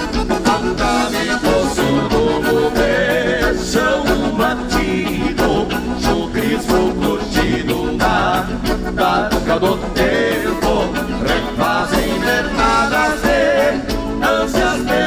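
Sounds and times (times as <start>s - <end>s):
accordion melody: 0.0s - 15.0s.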